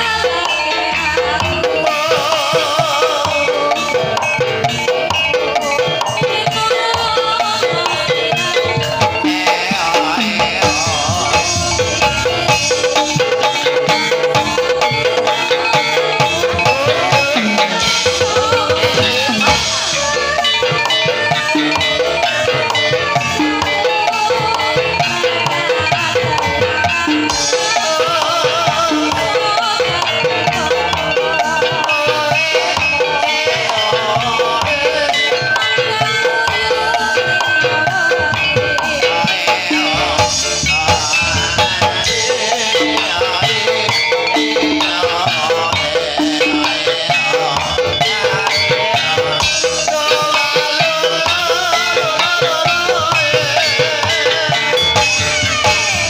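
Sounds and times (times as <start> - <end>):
drums: 0.0 - 56.0
gong-chime percussion: 0.0 - 56.0
tuned mallet-struck notes: 0.0 - 56.0.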